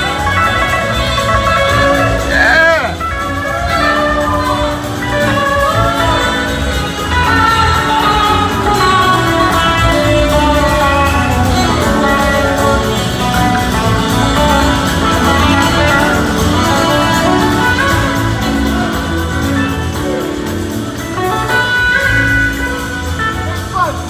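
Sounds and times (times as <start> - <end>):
drums and bass groove: 0.0 - 24.0
electric guitars: 0.0 - 24.0
horn section: 0.0 - 24.0.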